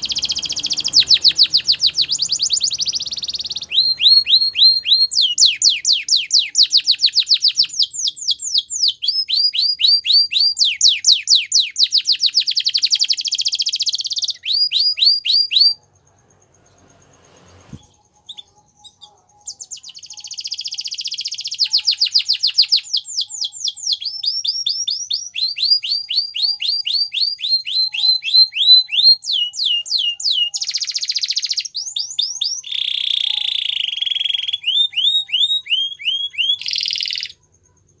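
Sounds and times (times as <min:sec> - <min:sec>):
canary singing trills: 0:00.0 - 0:38.0.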